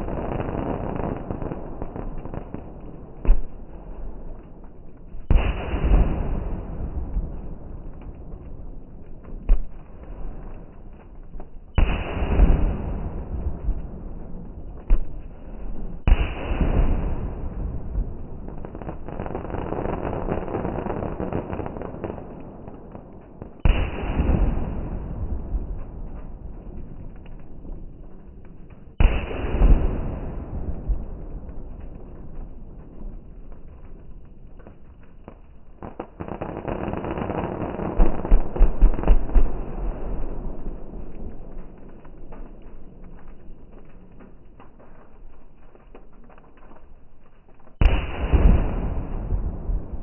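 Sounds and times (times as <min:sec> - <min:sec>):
crackling firework pops: 0:00.0 - 0:50.0
firework bangs: 0:00.0 - 0:50.0.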